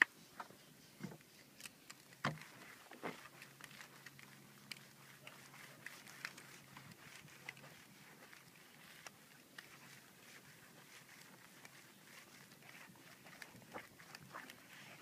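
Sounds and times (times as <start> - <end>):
wet rubbing of clay towel: 2.0 - 15.0.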